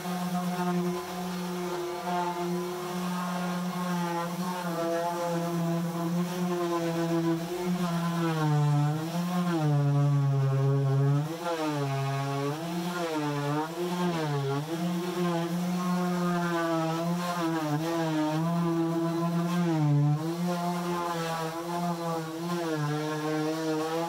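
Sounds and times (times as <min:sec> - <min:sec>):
orbital sander on wood: 0:00.0 - 0:24.0.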